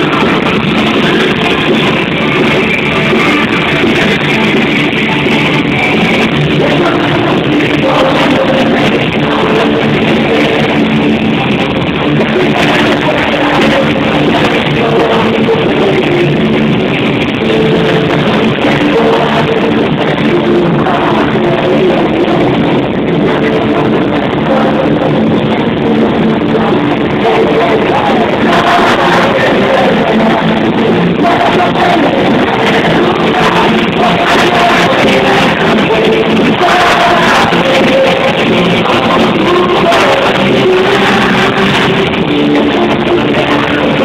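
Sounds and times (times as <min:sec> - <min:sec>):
drum kit: 0:00.0 - 0:44.0
electric guitar: 0:00.0 - 0:44.0.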